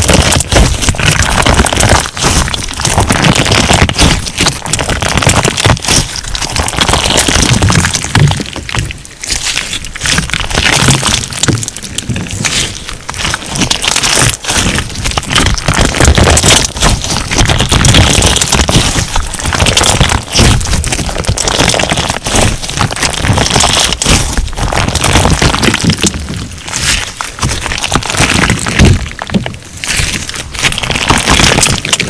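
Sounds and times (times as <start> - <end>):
crunch slime crackling: 0.0 - 32.0.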